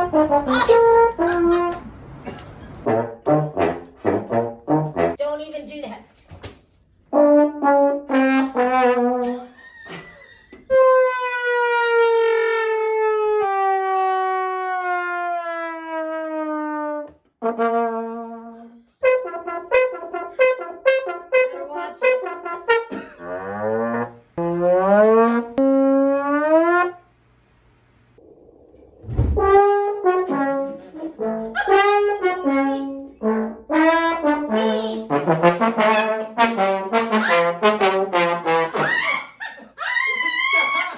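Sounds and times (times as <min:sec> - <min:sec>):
trombone comic effects: 0:00.0 - 0:01.8, 0:02.8 - 0:05.2, 0:07.1 - 0:09.6, 0:10.7 - 0:27.0, 0:29.3 - 0:39.2.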